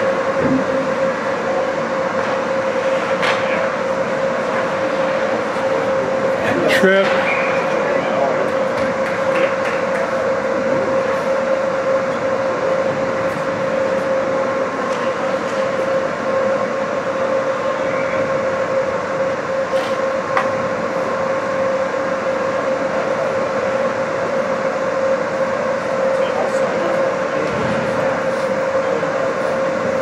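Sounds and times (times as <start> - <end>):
mechanical drone hum: 0.0 - 30.0.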